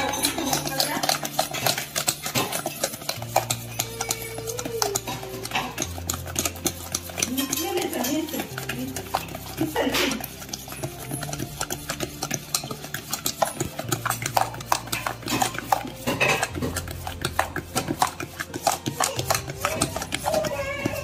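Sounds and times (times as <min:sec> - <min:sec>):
utensil beating batter in bowl: 0:00.0 - 0:21.0.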